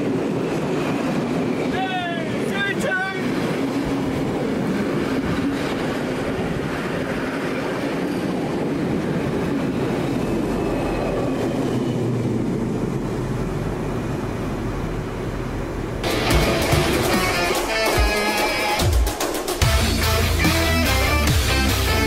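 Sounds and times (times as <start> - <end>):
diesel locomotive hum: 0.0 - 19.0, 19.6 - 22.0.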